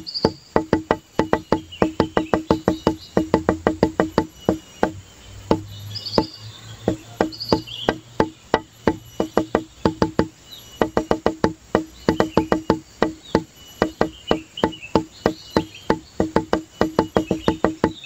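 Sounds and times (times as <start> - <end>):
faint high chirps: 0.0 - 18.0
wood-block taps music: 0.0 - 18.0.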